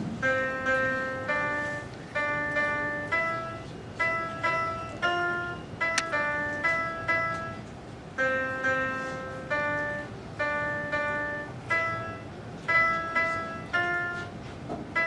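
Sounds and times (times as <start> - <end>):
piano-like keyboard notes: 0.0 - 15.0.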